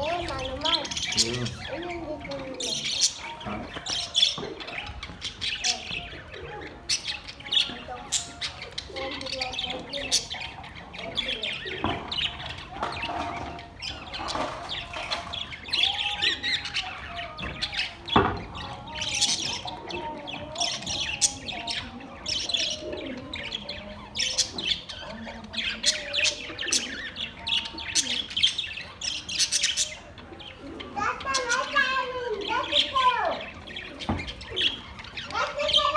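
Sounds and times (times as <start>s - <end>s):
budgerigars chirping: 0.0s - 35.9s.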